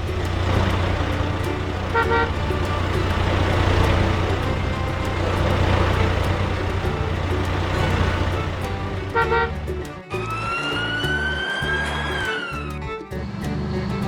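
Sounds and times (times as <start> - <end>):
vehicle engine rumbling: 0.0 - 14.0
short horn toots: 0.5 - 13.2.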